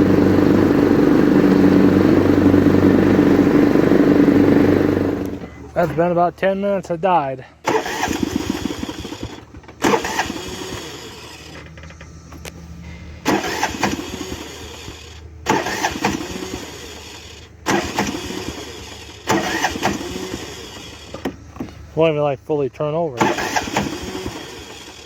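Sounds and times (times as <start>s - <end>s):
lawn mower engine cranking: 0.0s - 6.4s, 7.6s - 12.6s, 13.2s - 21.9s, 23.2s - 25.0s.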